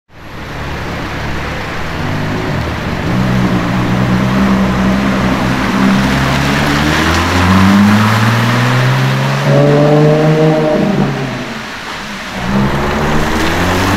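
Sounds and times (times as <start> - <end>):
tyres hissing on wet road: 0.1 - 13.9
car engine accelerating: 0.2 - 13.9.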